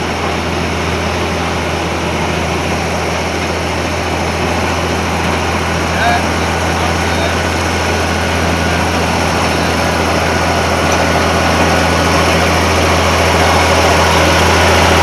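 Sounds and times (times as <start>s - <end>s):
tractor engine running hard: 0.0s - 15.0s.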